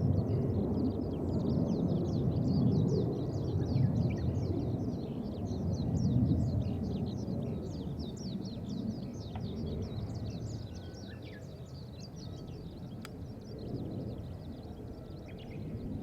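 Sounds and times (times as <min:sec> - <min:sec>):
distant jet engine rumble: 0:00.0 - 0:16.0
small birds chirping: 0:00.8 - 0:16.0.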